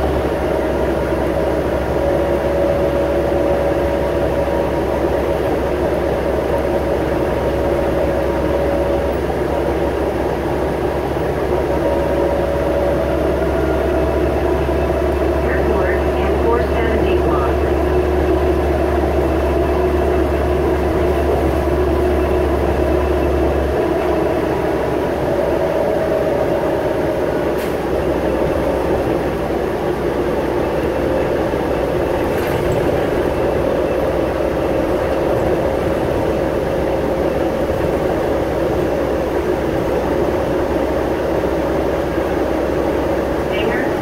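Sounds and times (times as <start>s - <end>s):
bus engine drone: 0.0s - 44.0s
road noise: 0.0s - 44.0s.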